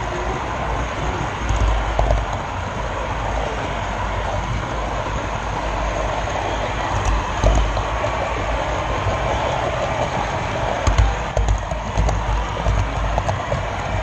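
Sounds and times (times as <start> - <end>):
small wheels rattling on rail: 0.0 - 14.0.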